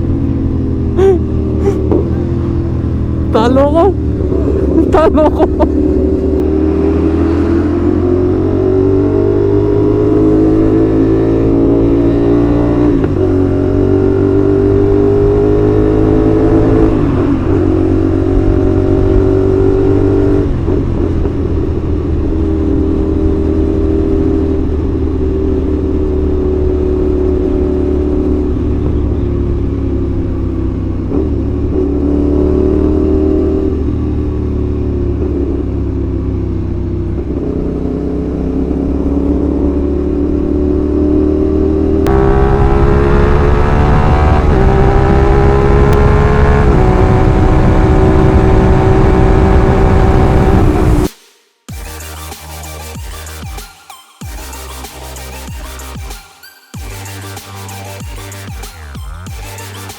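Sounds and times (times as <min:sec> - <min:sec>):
motorcycle engine accelerating: 0:00.0 - 0:51.1.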